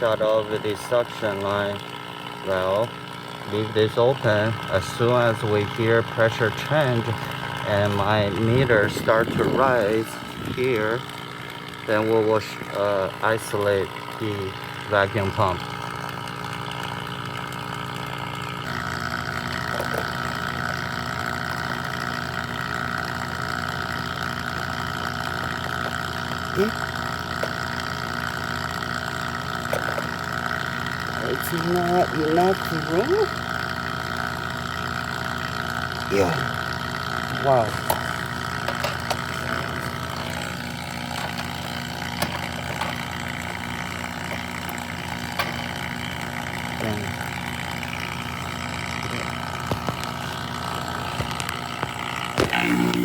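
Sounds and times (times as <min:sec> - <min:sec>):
vacuum pump running: 0:00.0 - 0:53.0.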